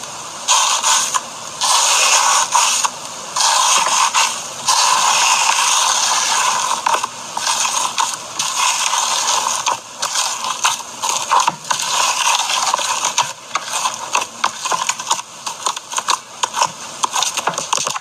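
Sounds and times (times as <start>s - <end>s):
crunchy slime crackling: 0.7s - 18.0s.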